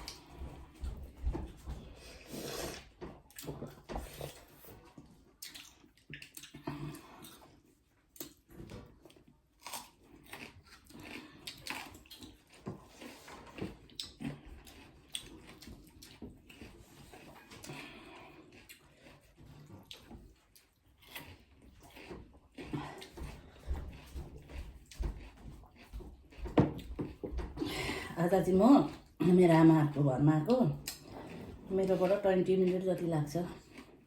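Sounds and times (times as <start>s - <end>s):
people chewing food: 0.0s - 34.0s.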